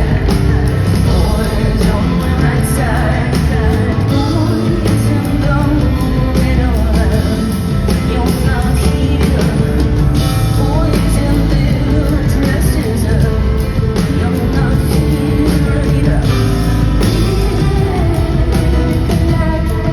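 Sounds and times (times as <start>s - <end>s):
live instrumental accompaniment: 0.0s - 19.9s
woman singing: 0.0s - 19.9s.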